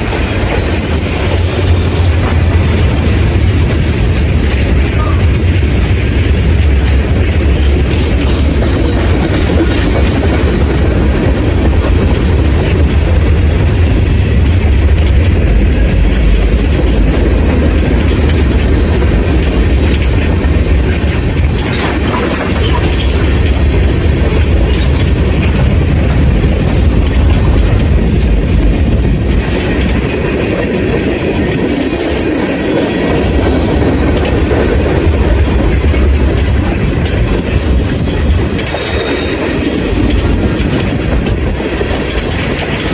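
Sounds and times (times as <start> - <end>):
train wheels clattering over rails: 0.0 - 42.9.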